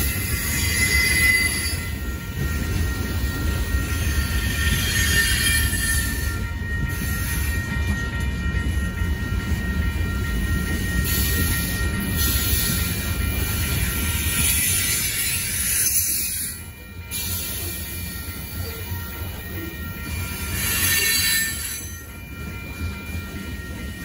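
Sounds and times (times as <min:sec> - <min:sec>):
high wheel squeal: 0:00.0 - 0:08.9, 0:10.2 - 0:24.0
train wheels rumbling on rail: 0:00.0 - 0:24.0.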